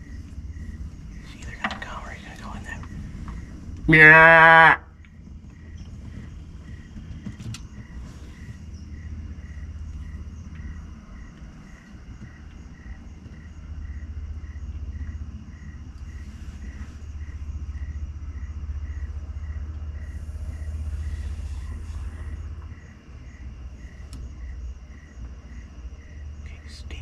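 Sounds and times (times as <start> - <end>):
crickets chirping: 0.0 - 27.0
low rumble: 0.0 - 27.0.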